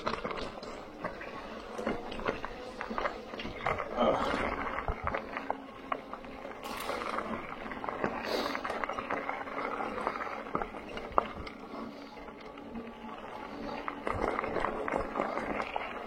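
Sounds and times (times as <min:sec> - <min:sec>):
bicycle tyres crunching on trail: 0:00.0 - 0:16.0
bike rattling over bumps: 0:00.0 - 0:16.0.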